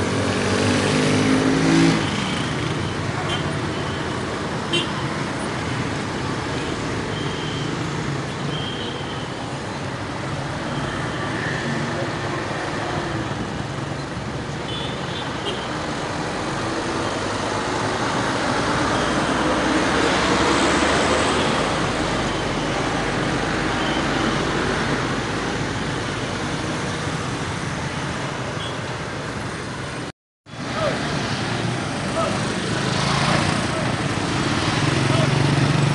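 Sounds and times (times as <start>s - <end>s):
road traffic driving past: 0.0s - 35.9s.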